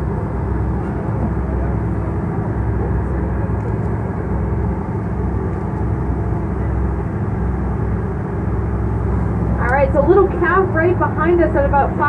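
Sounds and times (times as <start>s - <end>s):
boat engine droning: 0.0s - 12.0s
sea noise: 0.0s - 12.0s
wind: 0.0s - 12.0s.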